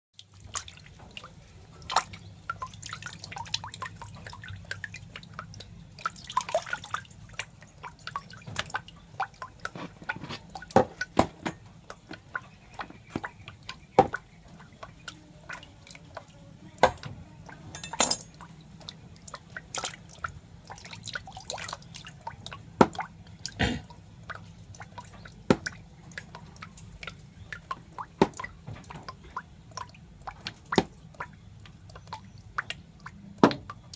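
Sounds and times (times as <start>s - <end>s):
wet clicks and drips: 0.2s - 33.9s.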